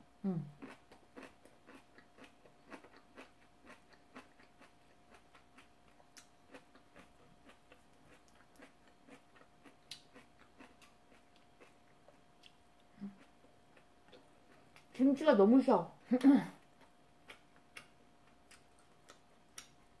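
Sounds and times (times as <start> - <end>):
faint steady hum: 0.0 - 20.0
person chewing: 0.6 - 15.0, 16.8 - 20.0.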